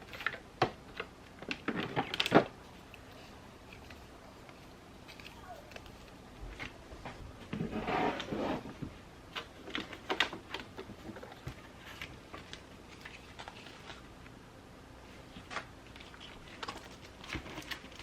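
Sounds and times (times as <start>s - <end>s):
paper rustling: 0.0s - 14.3s, 15.0s - 18.0s.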